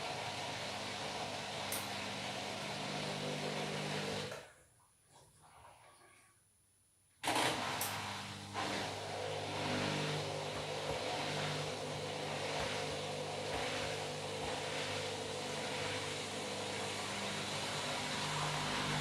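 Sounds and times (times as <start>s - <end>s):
washing machine whooshing: 0.0s - 4.3s, 7.2s - 19.0s
washing machine motor hum: 0.0s - 4.5s, 7.2s - 19.0s.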